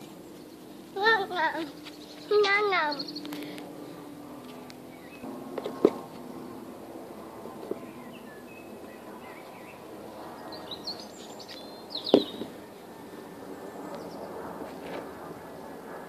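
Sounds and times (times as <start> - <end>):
small birds chirping: 0.0 - 6.5, 7.6 - 14.5
outdoor background sound: 0.0 - 16.0.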